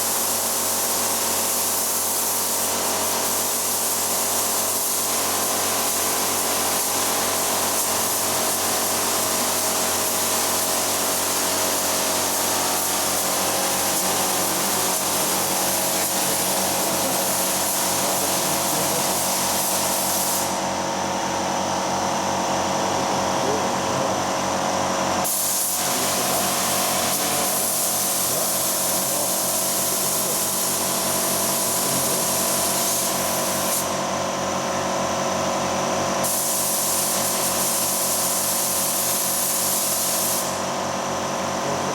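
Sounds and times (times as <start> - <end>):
compressed-air spray gun hissing: 0.0 - 22.9, 23.7 - 41.9
mechanical hum: 0.0 - 41.9.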